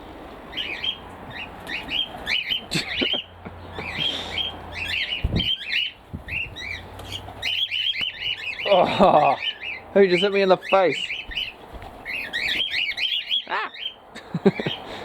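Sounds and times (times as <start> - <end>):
cockatiels chirping: 0.5 - 14.8.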